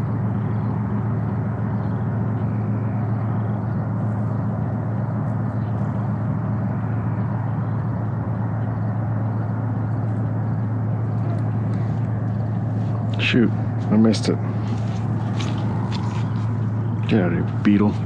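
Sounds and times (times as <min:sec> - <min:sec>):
constant rushing noise: 0:00.0 - 0:18.0
steady low hum: 0:00.0 - 0:18.0.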